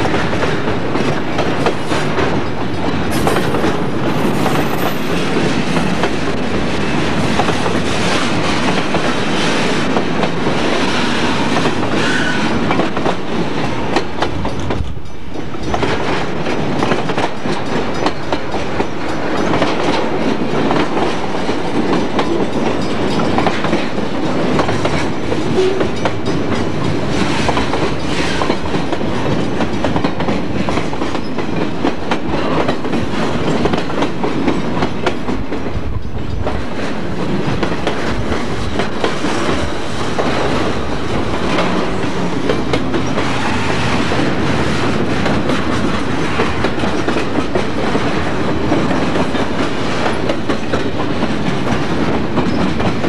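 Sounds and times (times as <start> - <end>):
train wheels rolling on rails: 0.0 - 53.0.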